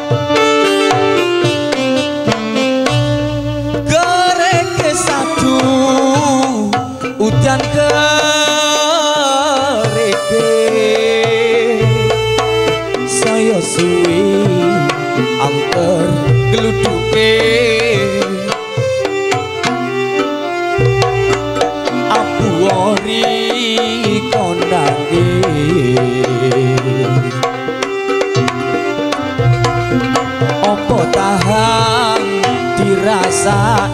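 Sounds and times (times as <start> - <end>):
hand drums beating: 0.0 - 33.9
keyboard melody: 0.0 - 33.9.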